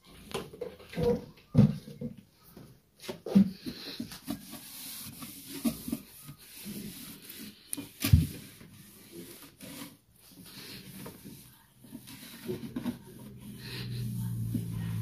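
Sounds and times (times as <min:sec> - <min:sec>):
objects rubbing and scraping: 0:02.0 - 0:15.0.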